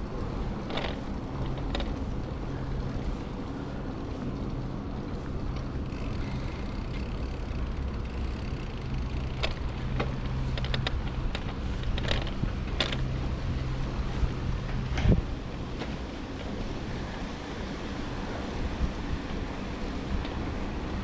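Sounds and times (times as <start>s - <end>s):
bicycle ride rumble: 0.0s - 21.0s
bike clicks and rattles: 0.0s - 21.0s.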